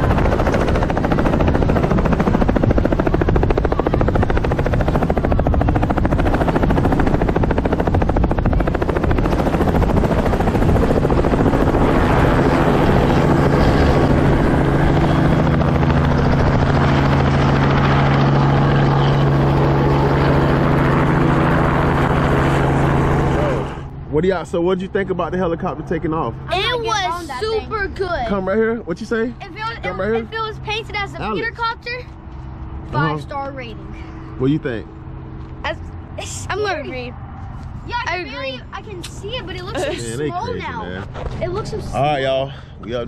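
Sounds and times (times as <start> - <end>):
helicopter engine noise: 0.0 - 43.0
helicopter rotor chop: 0.0 - 43.0.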